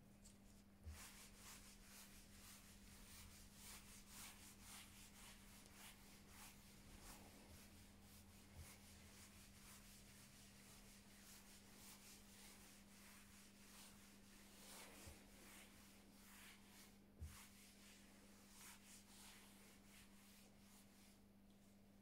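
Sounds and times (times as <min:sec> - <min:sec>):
cloth rubbing on tabletop: 0:00.3 - 0:21.3.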